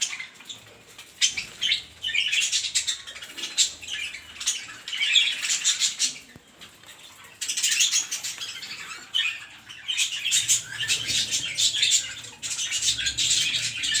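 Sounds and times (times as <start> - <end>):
birds chattering and squawking: 0.0 - 14.0.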